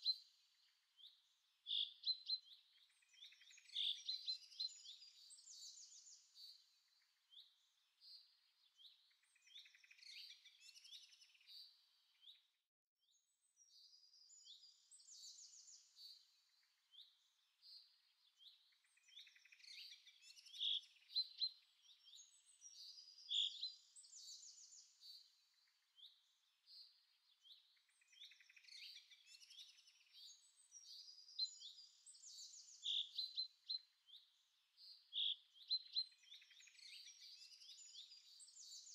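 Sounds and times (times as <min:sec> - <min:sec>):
faint songbirds chirping: 0:00.0 - 0:38.9.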